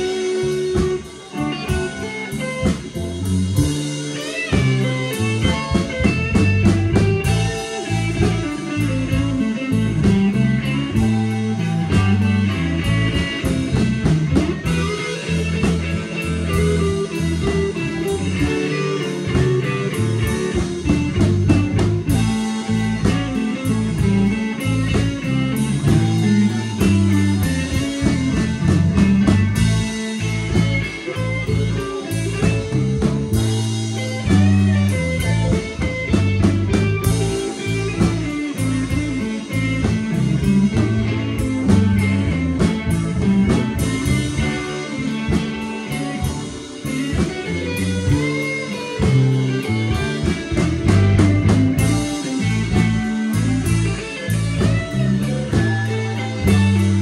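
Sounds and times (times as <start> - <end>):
blues harmonica: 0.0 - 57.0
electric blues band playing: 0.0 - 57.0.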